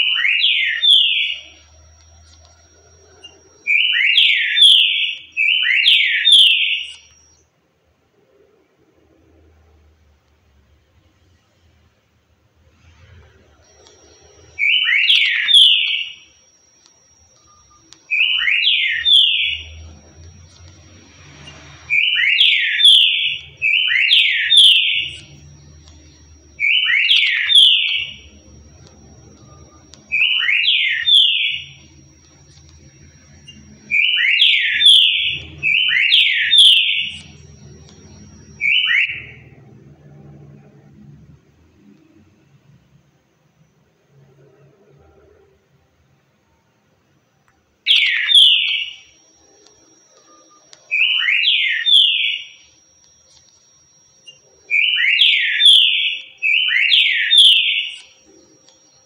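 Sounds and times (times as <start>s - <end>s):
faint high whine: 0.0s - 59.0s.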